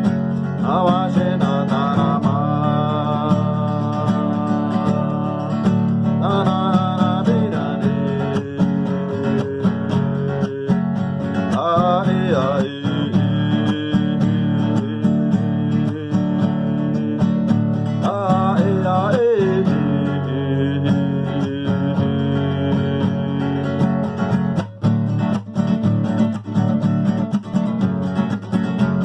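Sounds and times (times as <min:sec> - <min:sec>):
person singing wordless melody: 0:00.0 - 0:24.2
strummed acoustic guitar: 0:00.0 - 0:29.0.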